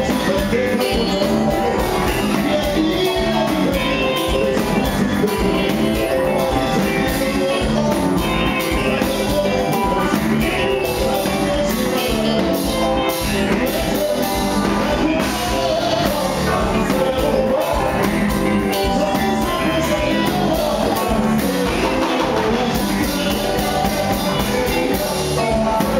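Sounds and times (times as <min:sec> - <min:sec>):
amplified live band music: 0:00.0 - 0:25.9
man singing into a microphone: 0:00.0 - 0:25.9.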